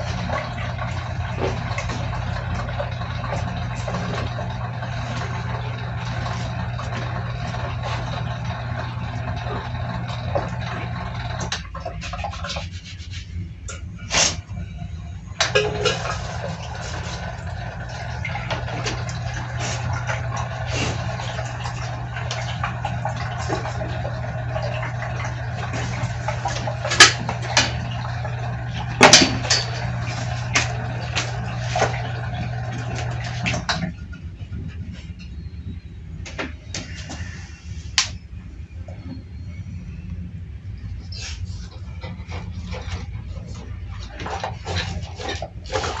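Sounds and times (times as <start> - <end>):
water splashing into tank: 0.0 - 14.6, 15.4 - 34.7, 42.0 - 46.0
water pump humming: 0.0 - 46.0.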